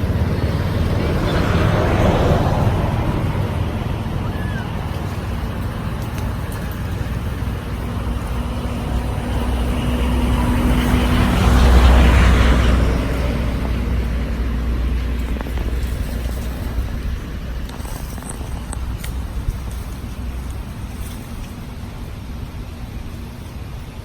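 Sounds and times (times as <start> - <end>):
vehicle passing by: 0.0 - 22.4.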